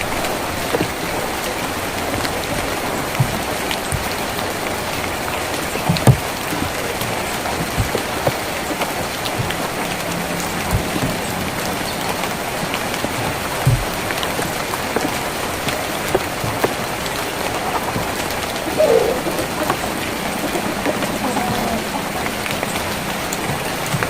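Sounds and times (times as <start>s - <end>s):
rain on a tin roof: 0.0s - 24.0s.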